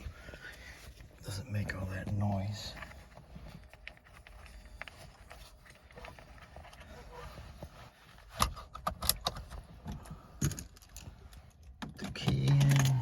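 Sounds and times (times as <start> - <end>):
quiet rustling: 0.0 - 13.0.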